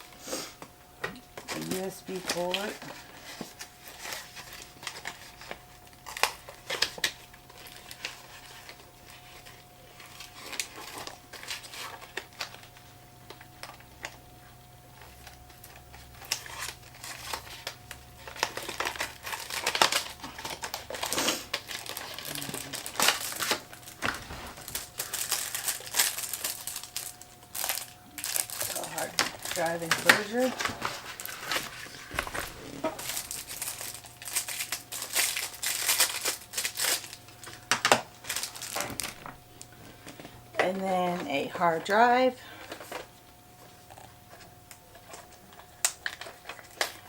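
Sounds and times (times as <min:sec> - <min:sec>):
faint steady hum: 0:00.0 - 0:47.0
packaging crinkling: 0:01.4 - 0:14.2, 0:14.9 - 0:40.4, 0:42.5 - 0:47.0.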